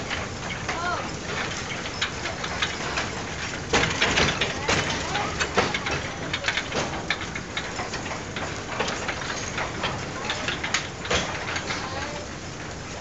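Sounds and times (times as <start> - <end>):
electric train rumbling: 0.0 - 13.0
wheels clicking and clanking on track: 0.0 - 13.0.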